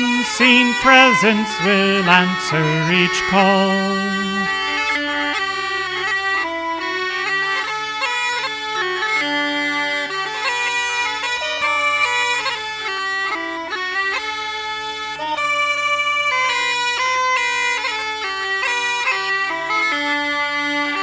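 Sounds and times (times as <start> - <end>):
bagpipes playing a melody: 0.0 - 21.0.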